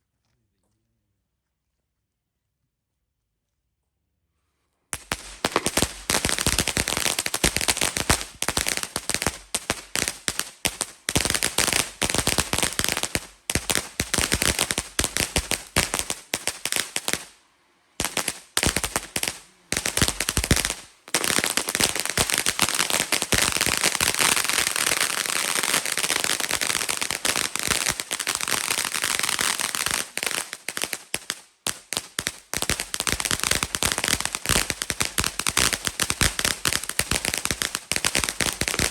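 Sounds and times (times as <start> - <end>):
firework crackling pops: 5.0 - 17.4, 18.0 - 38.9.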